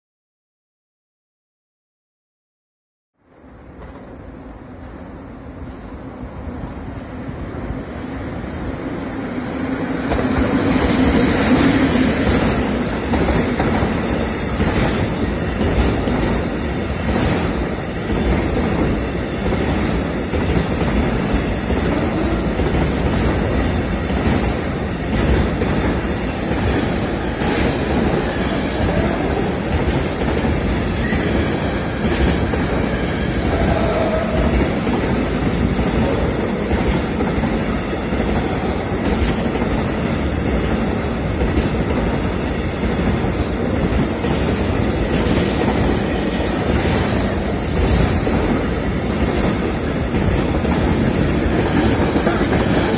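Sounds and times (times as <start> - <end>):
electric locomotive hum: 3.2 - 52.9.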